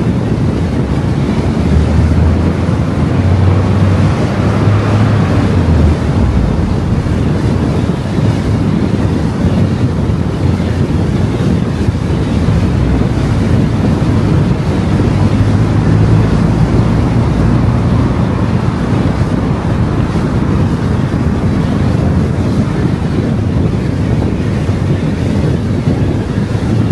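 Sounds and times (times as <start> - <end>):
low engine hum: 0.0 - 26.9
tyre and wind noise: 0.0 - 26.9.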